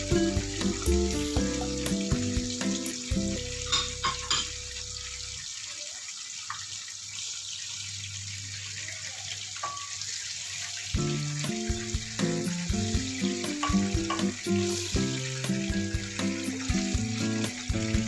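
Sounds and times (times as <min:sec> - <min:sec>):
meat deep-frying in oil: 0:00.0 - 0:18.0.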